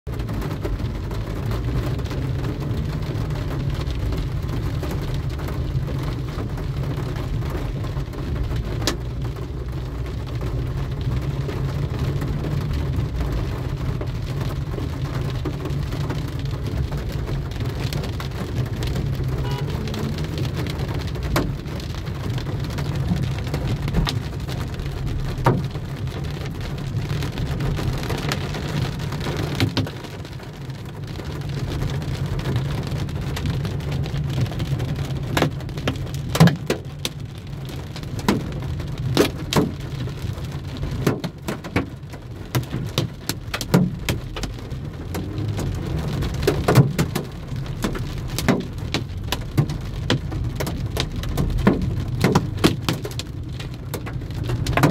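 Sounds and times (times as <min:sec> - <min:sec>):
moving car rumble: 0:00.0 - 0:54.9
heavy rain on a car: 0:00.1 - 0:54.9.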